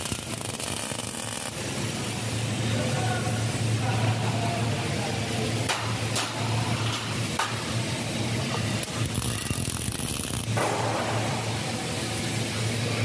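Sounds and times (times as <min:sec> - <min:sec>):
arc welding hum and crackle: 0:00.0 - 0:13.0
hissing arc crackle: 0:00.0 - 0:13.0.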